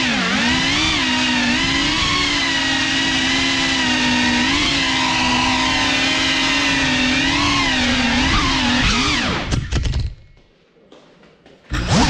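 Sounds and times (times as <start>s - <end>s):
drone motors and propellers whining: 0.0s - 9.6s, 11.7s - 12.0s.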